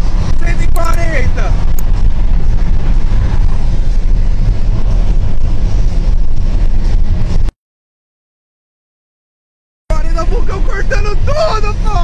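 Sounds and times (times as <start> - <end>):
car engine low rumble: 0.0 - 7.6, 9.9 - 12.0
wind noise in car cabin: 0.0 - 7.6, 9.9 - 12.0.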